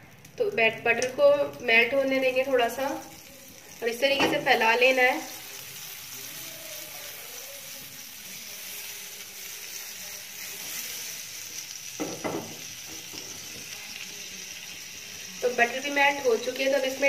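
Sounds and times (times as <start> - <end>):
butter sizzling in a pan: 0.0 - 17.0.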